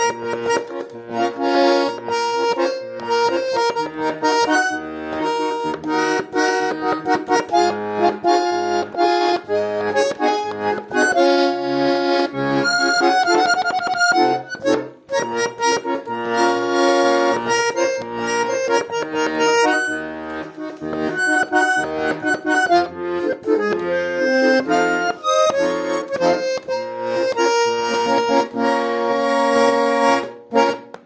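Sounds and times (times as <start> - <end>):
button accordion melody: 0.0 - 31.0.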